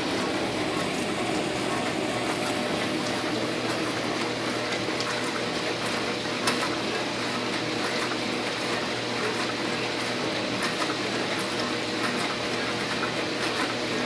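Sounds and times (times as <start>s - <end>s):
wash pump hum: 0.0s - 14.0s.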